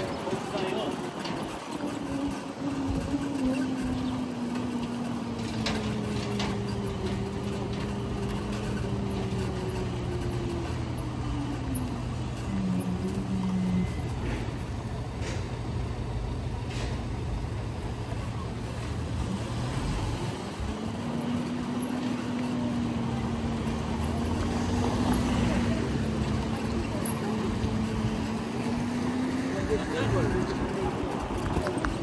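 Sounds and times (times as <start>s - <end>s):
street traffic: 0.0s - 32.0s.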